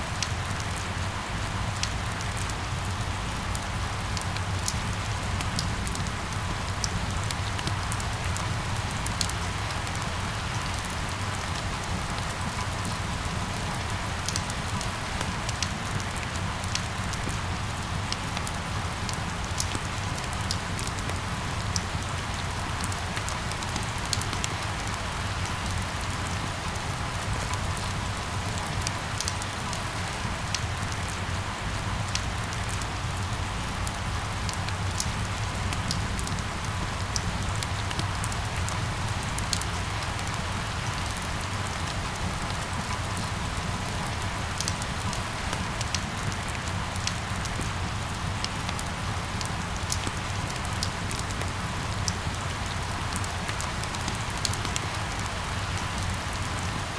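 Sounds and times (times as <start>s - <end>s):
rain on hard surfaces: 0.0s - 56.9s.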